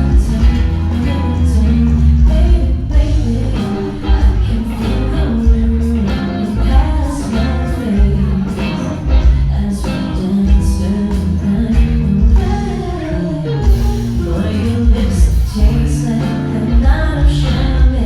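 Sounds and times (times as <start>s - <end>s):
bass drum beat: 0.0s - 18.0s
live band playing: 0.0s - 18.0s
person singing: 0.0s - 18.0s.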